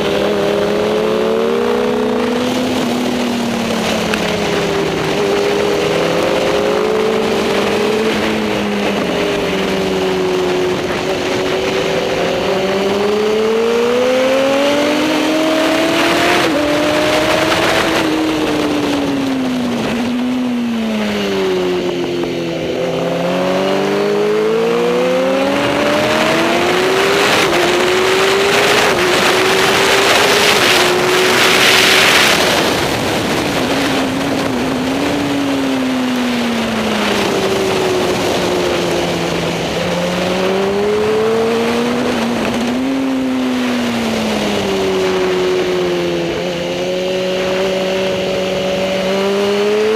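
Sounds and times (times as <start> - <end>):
racing motorcycle engine revving: 0.0 - 49.9
rush of noise: 0.0 - 49.9.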